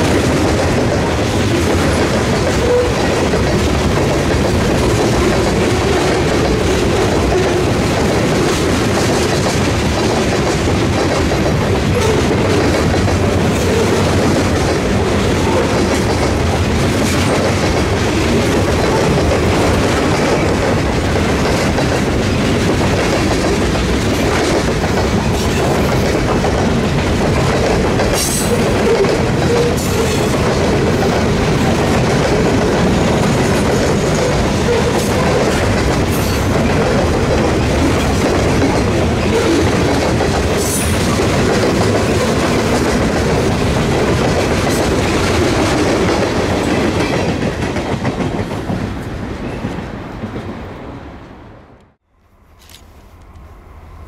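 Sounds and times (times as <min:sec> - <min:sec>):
freight train wheels clicking on rails: 0:00.0 - 0:50.8.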